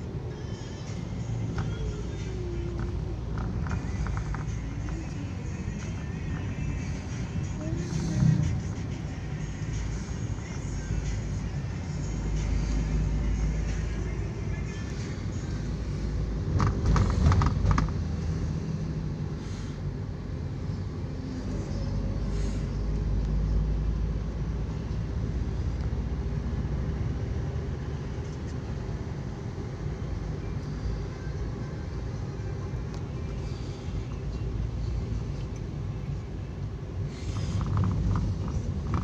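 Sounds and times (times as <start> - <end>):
road and engine rumble in a car: 0.0 - 39.0.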